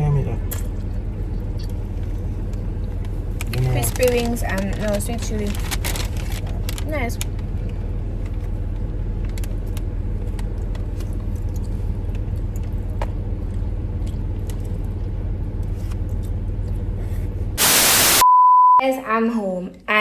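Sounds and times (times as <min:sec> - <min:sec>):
car cabin low rumble: 0:00.0 - 0:17.6.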